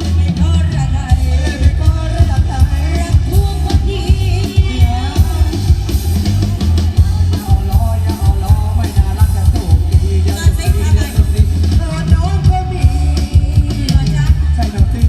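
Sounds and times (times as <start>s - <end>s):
drum kit: 0.0s - 15.0s
heavy bass beat: 0.0s - 15.0s
person singing: 0.0s - 15.0s.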